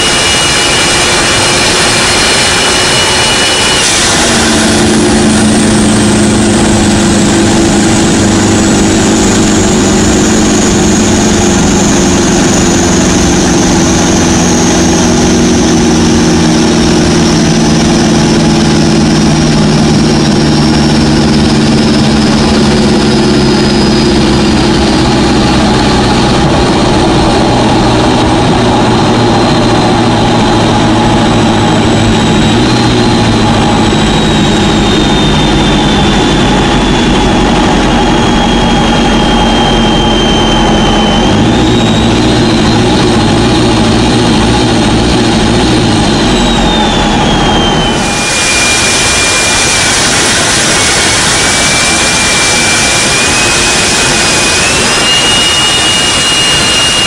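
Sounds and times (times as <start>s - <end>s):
car engine drone: 0.0s - 57.0s
high steady whistle: 0.0s - 57.0s
high whine: 0.0s - 57.0s.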